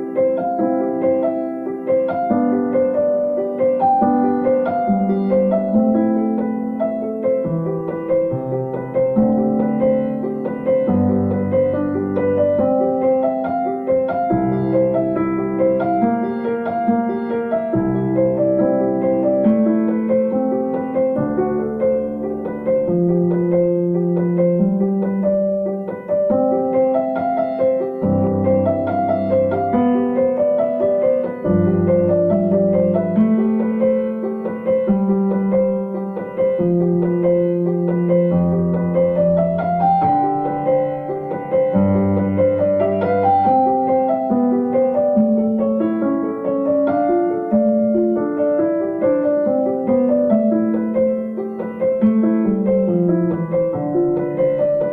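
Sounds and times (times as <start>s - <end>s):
piano chords: 0.0s - 54.9s.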